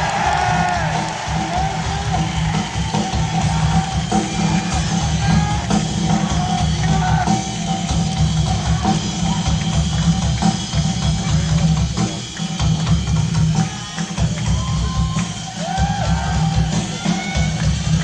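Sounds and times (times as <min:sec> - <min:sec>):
drum kit: 0:00.0 - 0:18.0
live rock band playing: 0:00.0 - 0:18.0.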